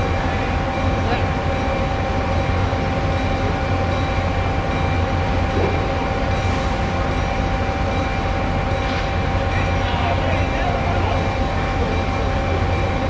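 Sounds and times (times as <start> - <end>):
constant high hum: 0.0 - 13.0
train low rumble: 0.0 - 13.0.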